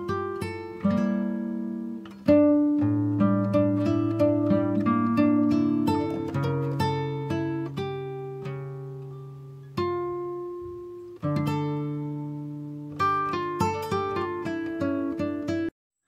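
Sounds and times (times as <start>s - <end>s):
plucked acoustic guitar: 0.0s - 15.7s.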